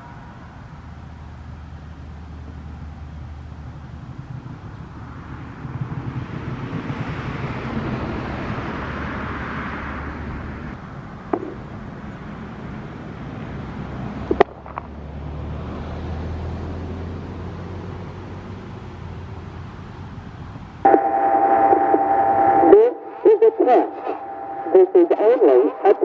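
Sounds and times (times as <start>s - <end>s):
vehicle passing: 0.0s - 26.0s.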